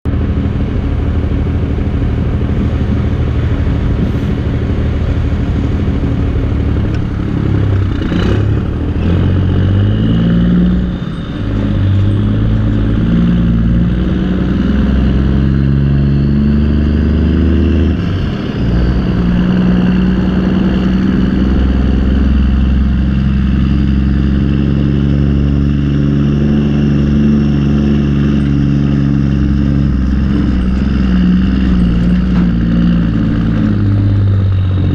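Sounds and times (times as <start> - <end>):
backhoe diesel engine revving: 0.1 - 34.9.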